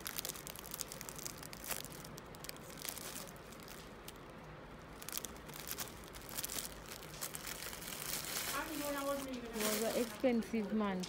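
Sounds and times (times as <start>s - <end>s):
plastic sleeves crinkling: 0.0s - 11.0s.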